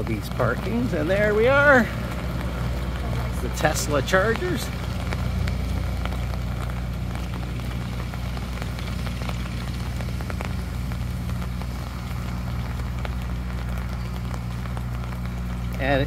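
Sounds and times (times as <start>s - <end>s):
low hum: 0.0s - 16.0s
raindrops on an umbrella: 0.0s - 16.0s.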